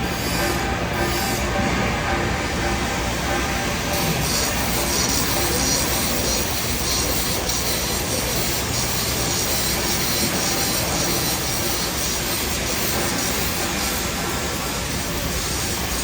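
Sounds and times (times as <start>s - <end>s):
welding hiss and hum: 0.0s - 16.0s.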